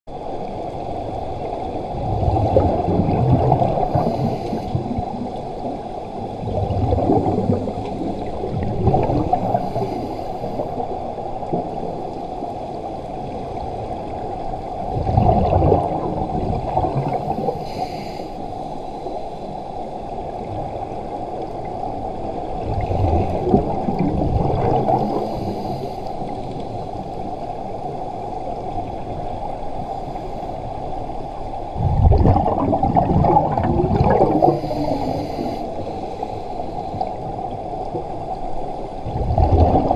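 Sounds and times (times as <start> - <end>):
low underwater wash: 0.1 - 39.9
underwater bubbling: 0.1 - 39.9.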